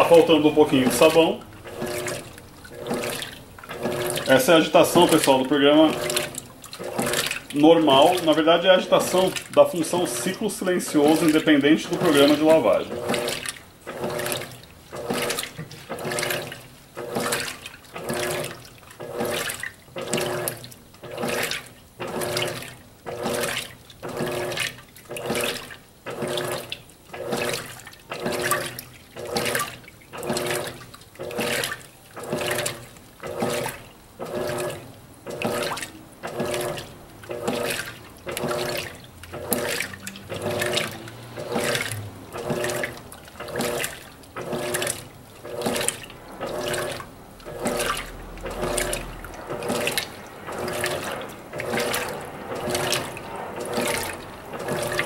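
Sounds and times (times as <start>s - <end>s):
washing machine water sloshing: 0.0s - 55.0s.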